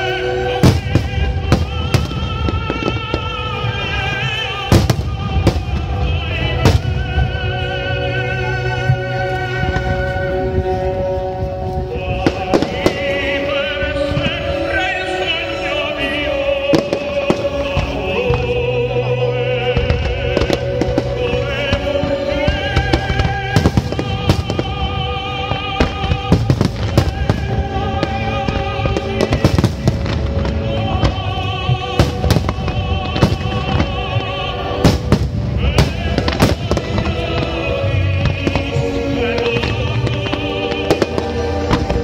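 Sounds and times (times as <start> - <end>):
fireworks bursting with sharp bangs: 0.0 - 8.0, 8.7 - 42.0
loud music: 0.0 - 42.0.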